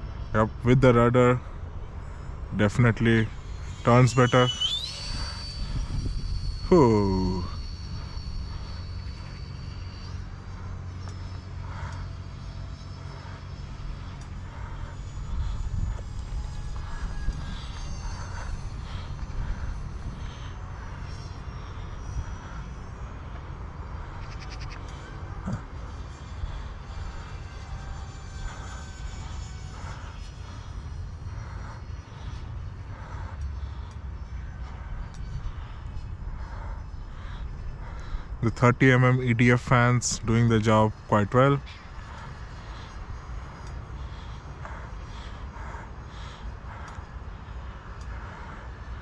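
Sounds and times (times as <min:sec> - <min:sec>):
electric ducted fans whining: 0:00.0 - 0:49.0
low rumble: 0:00.0 - 0:49.0.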